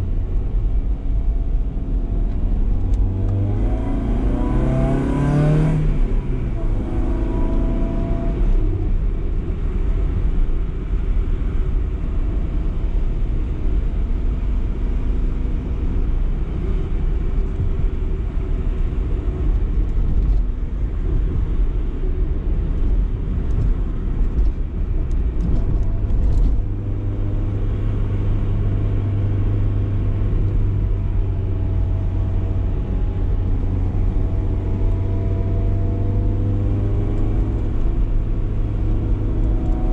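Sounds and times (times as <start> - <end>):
car engine driving: 0.0 - 39.9
road and tyre rumble: 0.0 - 39.9.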